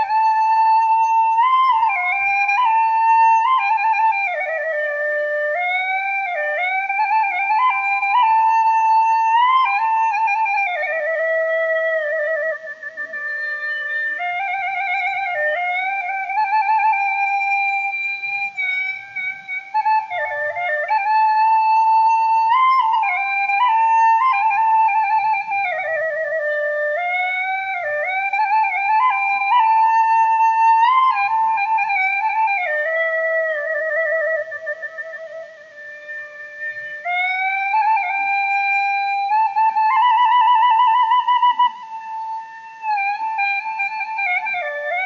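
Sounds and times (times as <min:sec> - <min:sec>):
slow solo flute melody: 0:00.0 - 0:45.0.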